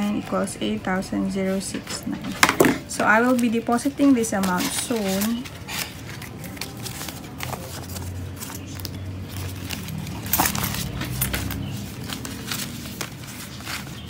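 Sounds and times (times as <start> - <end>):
paper and plastic rustling: 1.5 - 14.0.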